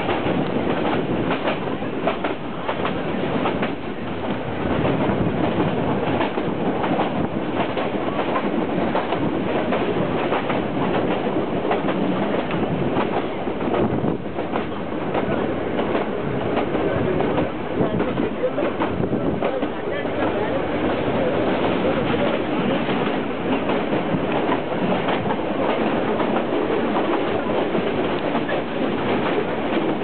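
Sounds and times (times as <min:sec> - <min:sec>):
train coaches rumbling: 0:00.0 - 0:30.0
wheels clacking over rail joints: 0:00.0 - 0:30.0.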